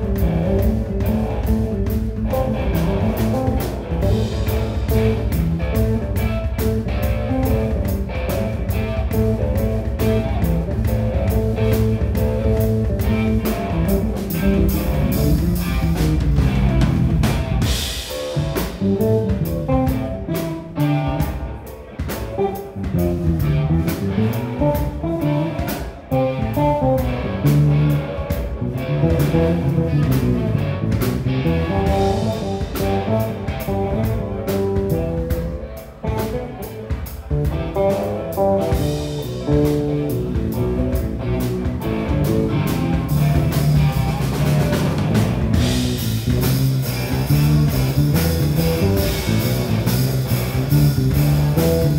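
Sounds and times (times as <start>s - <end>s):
electric guitar lead lines: 0.0s - 51.9s
live band music: 0.0s - 51.9s.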